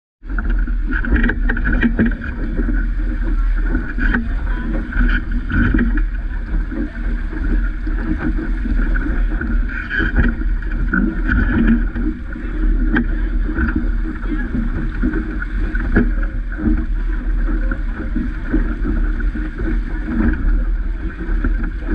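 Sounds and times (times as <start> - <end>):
water splashing along hull: 0.2 - 21.9
wind buffeting microphone: 0.2 - 21.9.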